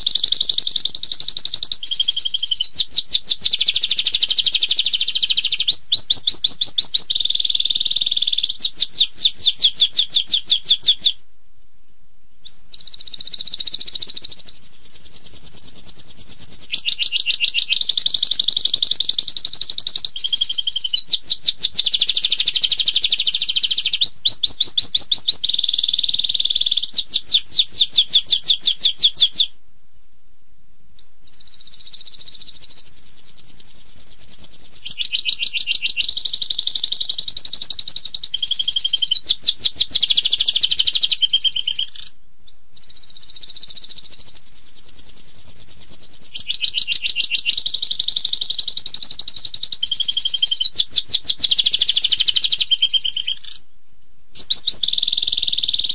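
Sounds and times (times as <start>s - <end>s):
canary singing trills: 0.0s - 11.2s, 12.4s - 29.6s, 31.0s - 53.7s, 54.4s - 55.9s.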